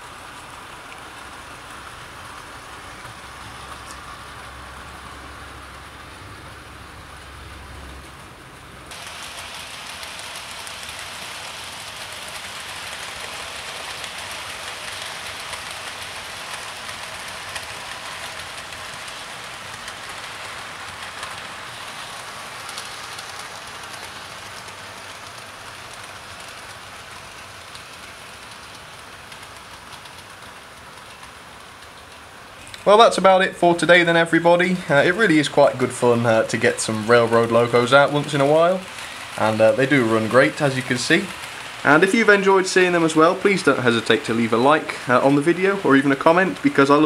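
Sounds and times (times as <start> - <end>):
model train wheels on rails: 0.0 - 47.0.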